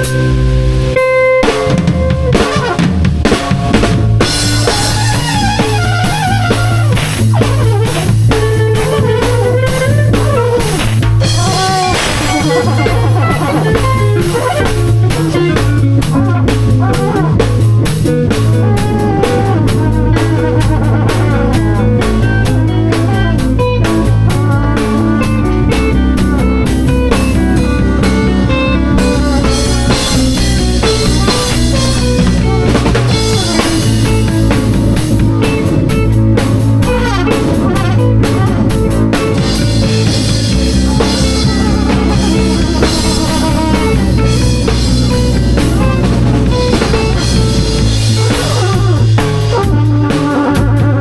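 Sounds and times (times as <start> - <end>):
drum kit with rimshots: 0.0 - 51.0
guitar playing: 0.0 - 51.0.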